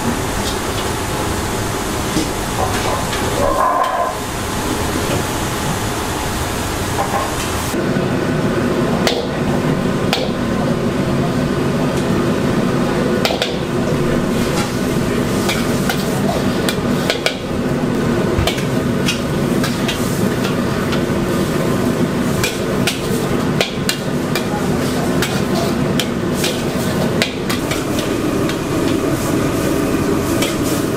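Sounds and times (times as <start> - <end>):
gas burner roar: 0.0 - 30.9.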